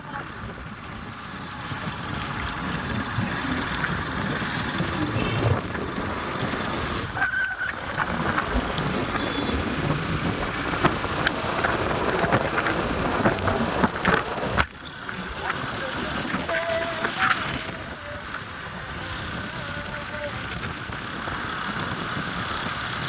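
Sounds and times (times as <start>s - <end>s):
motorcycle engine: 0.0s - 23.0s
wind on microphone: 0.0s - 23.0s.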